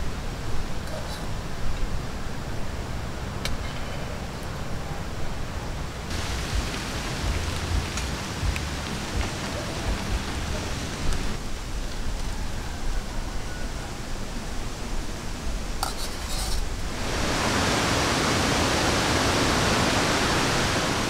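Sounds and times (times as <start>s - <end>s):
rain falling in forest: 0.0s - 16.0s, 16.6s - 21.0s
low rumble of wind: 0.0s - 21.0s.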